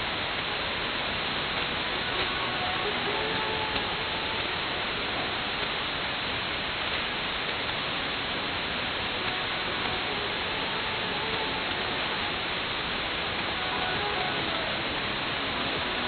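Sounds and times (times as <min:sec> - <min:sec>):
faint radio tones: 0:00.0 - 0:16.0
shortwave static and hiss: 0:00.0 - 0:16.0.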